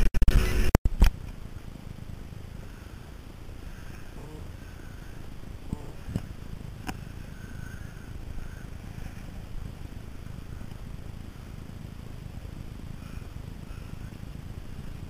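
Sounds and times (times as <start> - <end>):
boat motor rumbling: 0.4 - 15.0.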